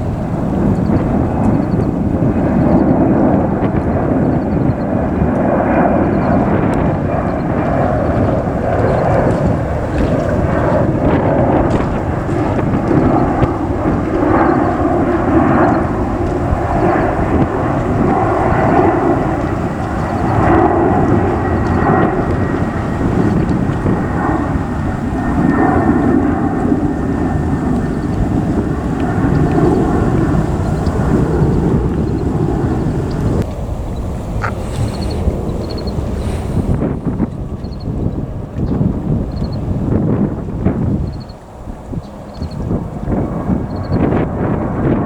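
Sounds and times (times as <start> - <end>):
jet engines roaring with whine: 0.0 - 45.0.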